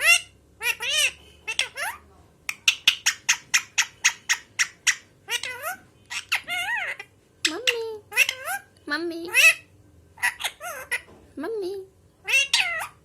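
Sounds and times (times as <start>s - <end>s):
parrot calling and squawking: 0.0s - 11.1s, 12.2s - 13.0s.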